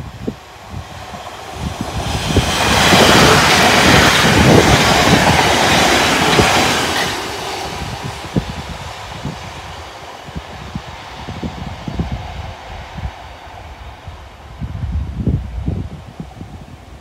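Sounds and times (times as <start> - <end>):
low clattering of train wheels: 0.0 - 14.0
train passing at speed: 0.0 - 17.0.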